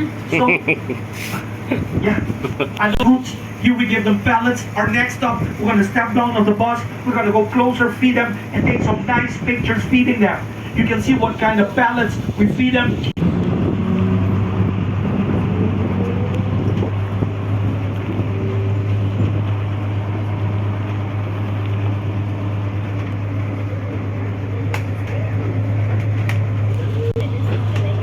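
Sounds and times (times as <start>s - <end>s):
bus engine droning: 0.0s - 28.0s
road noise: 0.0s - 28.0s.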